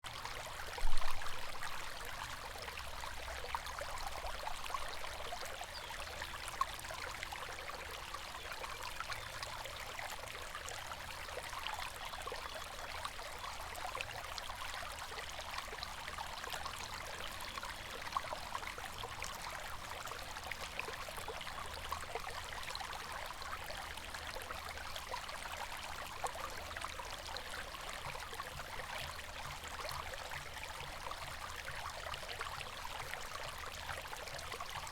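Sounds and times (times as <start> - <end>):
river water babbling: 0.1 - 34.9.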